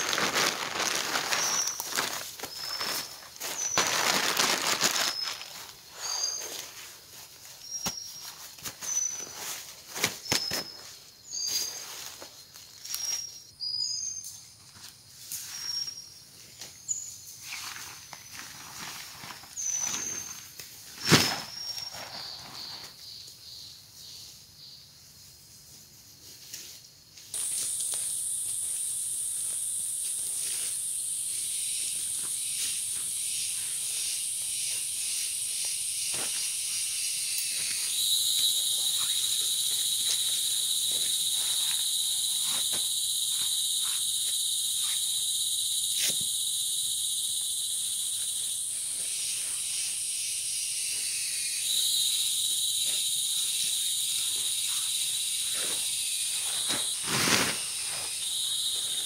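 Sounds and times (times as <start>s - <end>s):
forest insects chorus: 0.0s - 59.0s.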